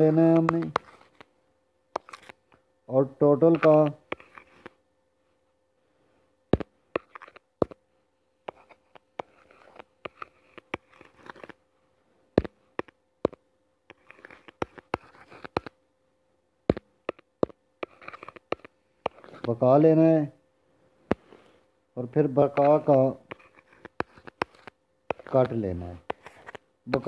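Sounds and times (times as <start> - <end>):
stylus tapping and scratching on touchscreen: 0.0 - 4.8, 6.5 - 7.8, 8.4 - 11.6, 12.4 - 15.8, 16.7 - 20.2, 21.1 - 27.0
faint steady hum: 0.0 - 27.0.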